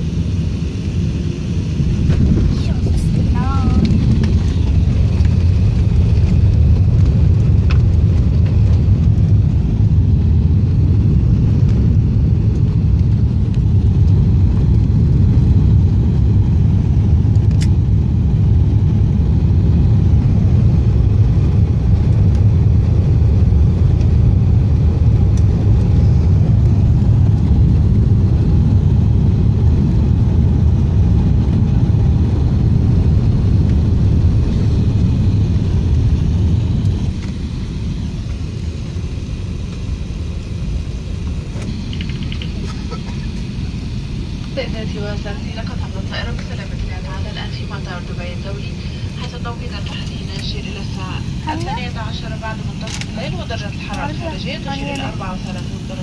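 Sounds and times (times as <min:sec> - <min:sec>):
airplane engines and runway rumble: 0:00.0 - 0:56.0.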